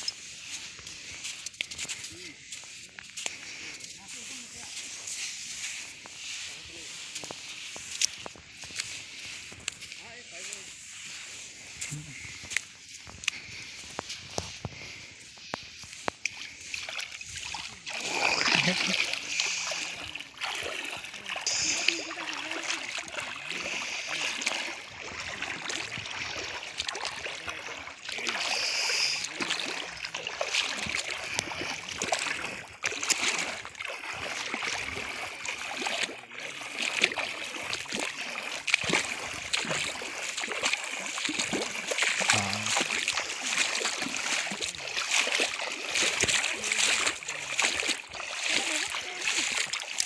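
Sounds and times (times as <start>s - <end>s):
footsteps wading through water: 0.0s - 50.0s.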